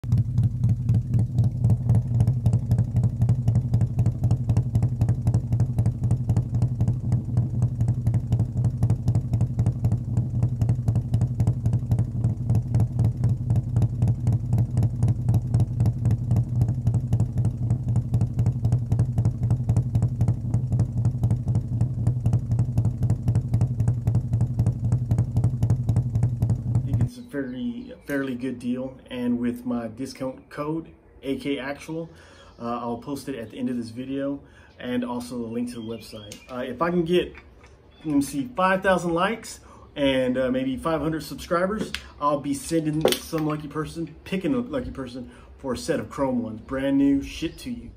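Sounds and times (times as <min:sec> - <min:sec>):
motorcycle engine idling: 0:00.0 - 0:29.8, 0:32.1 - 0:47.9.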